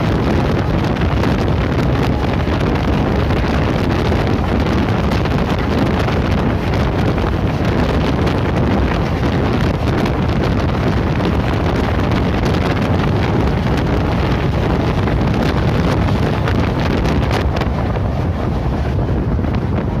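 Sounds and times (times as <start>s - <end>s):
train rumbling on track: 0.0s - 20.0s
wind buffeting microphone: 0.0s - 20.0s.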